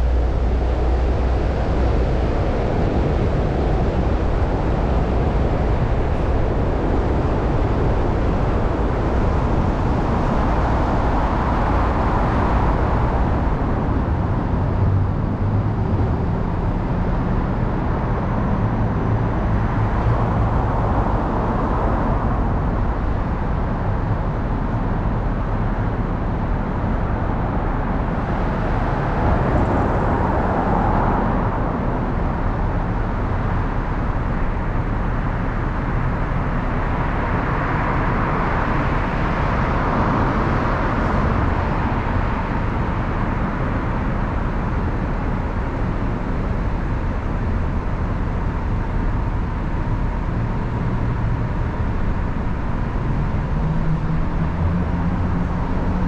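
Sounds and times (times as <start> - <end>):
low rumble of traffic: 0.0 - 56.0.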